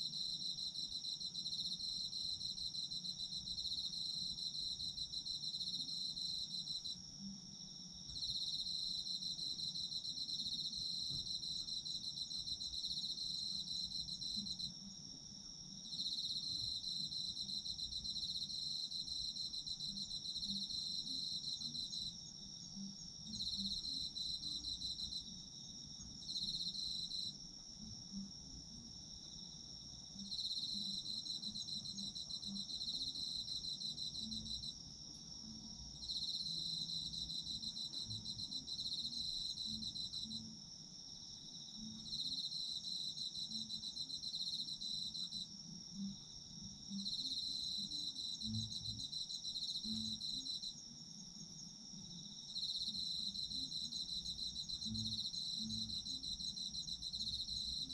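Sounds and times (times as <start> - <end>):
high steady insect trill: 0.0 - 57.9
rapid pulsing insect chirp: 0.0 - 57.9.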